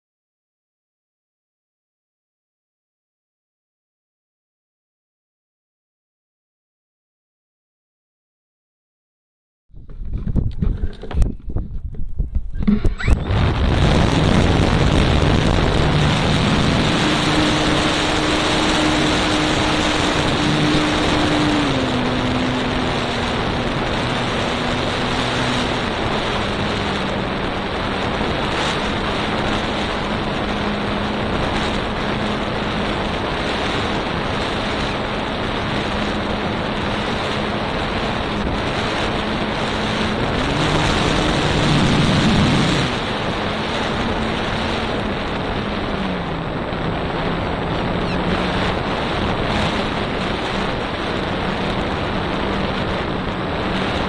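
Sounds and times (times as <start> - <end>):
airflow over microphone: 9.7 - 54.0
electric motor and propeller humming: 9.8 - 54.0.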